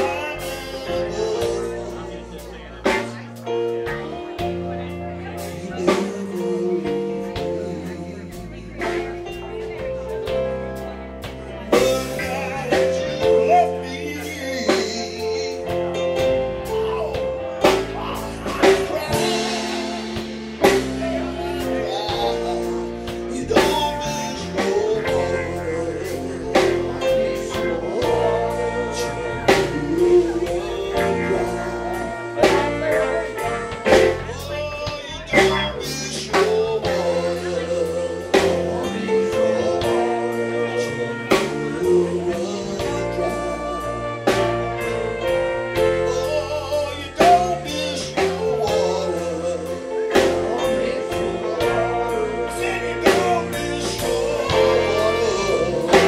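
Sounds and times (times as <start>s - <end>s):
drum kit beat: 0.0s - 56.0s
guitar playing: 0.0s - 56.0s
walking bass line: 0.0s - 56.0s.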